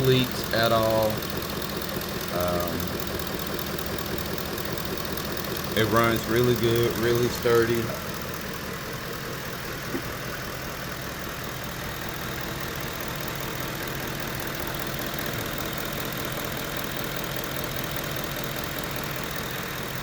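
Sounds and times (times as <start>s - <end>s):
engine idling: 0.0s - 20.0s
rapid ticking: 0.0s - 20.0s.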